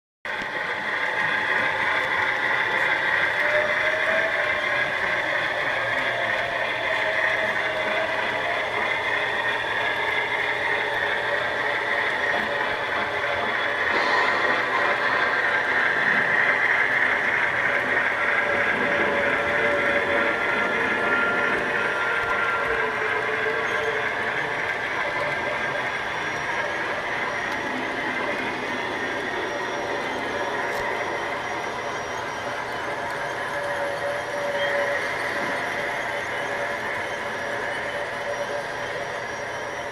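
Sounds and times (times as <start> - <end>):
model train motor whirring: 0.4 - 39.9
wheels rolling on rails: 0.4 - 39.9.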